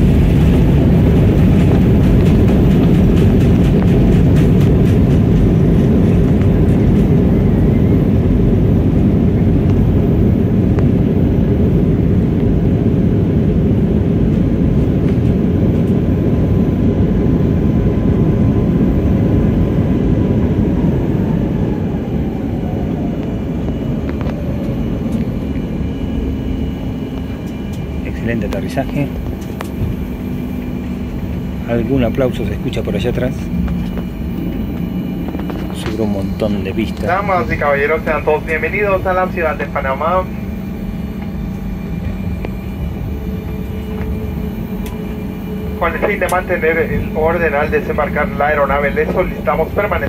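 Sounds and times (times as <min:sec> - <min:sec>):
airliner cabin engine rumble: 0:00.0 - 0:50.0
faint whine falling in pitch: 0:06.2 - 0:50.0.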